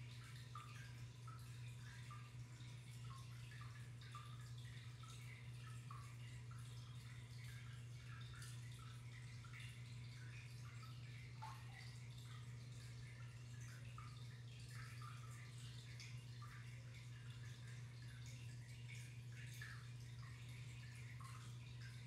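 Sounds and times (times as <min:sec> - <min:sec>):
aquarium water trickling: 0:00.0 - 0:22.0
steady low hum: 0:00.0 - 0:22.0.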